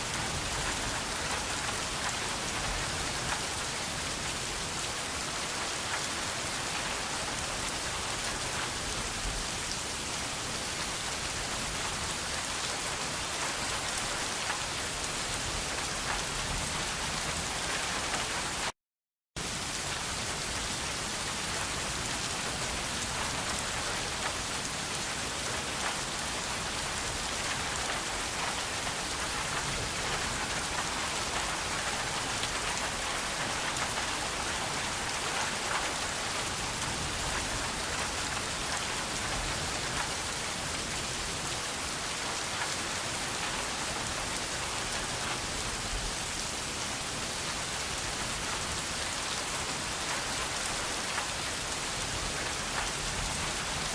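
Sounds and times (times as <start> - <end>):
rain pattering: 0.0 - 18.7, 19.4 - 53.9.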